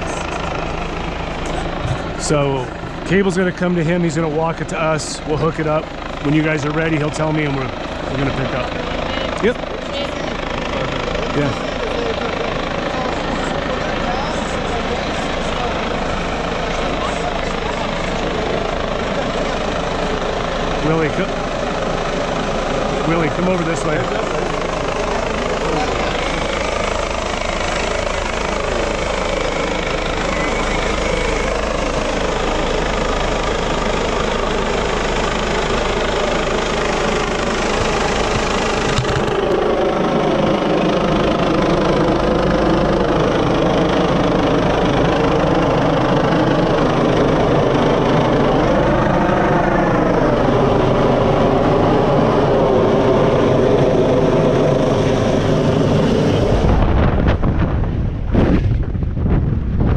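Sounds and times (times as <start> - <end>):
helicopter flying overhead: 0.0 - 59.9.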